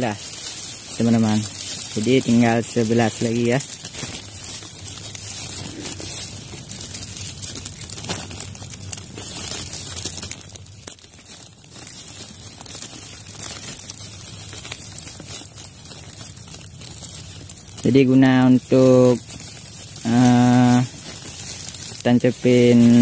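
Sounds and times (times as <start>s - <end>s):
dry grass rustling: 0.0s - 23.0s
plastic bag crinkling: 0.0s - 23.0s.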